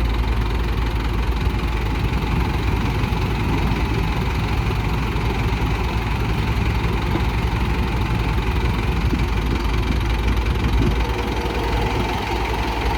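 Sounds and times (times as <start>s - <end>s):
diesel engine rumbling: 0.0s - 12.9s.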